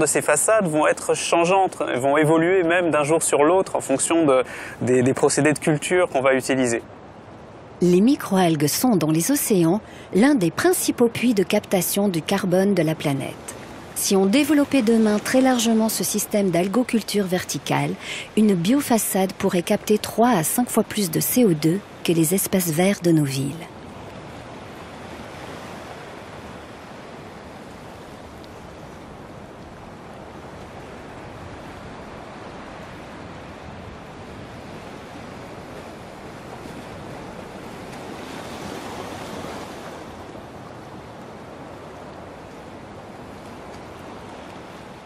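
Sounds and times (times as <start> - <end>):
sea waves washing on rocky shore: 0.0 - 45.0.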